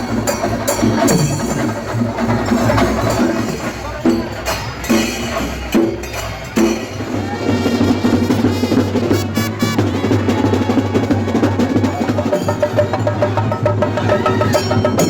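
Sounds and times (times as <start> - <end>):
fast drum roll: 0.0 - 15.0
steady low drumbeat: 0.0 - 15.0.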